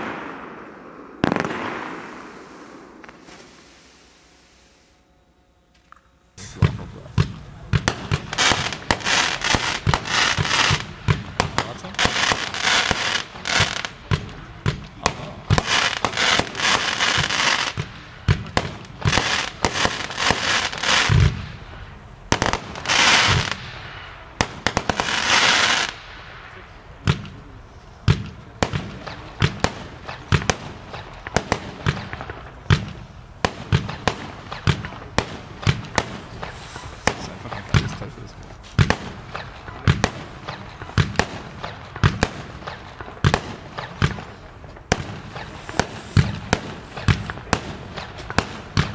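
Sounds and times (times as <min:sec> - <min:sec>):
fireworks shots: 0:00.0 - 0:05.1, 0:06.4 - 0:48.9
fireworks crackling hiss: 0:00.0 - 0:05.3, 0:06.3 - 0:48.9.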